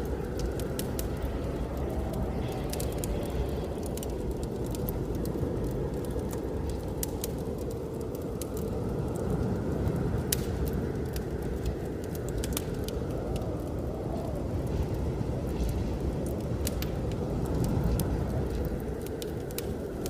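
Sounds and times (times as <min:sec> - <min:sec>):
blizzard wind rushing: 0:00.0 - 0:20.0
wood fire crackling: 0:00.0 - 0:20.0.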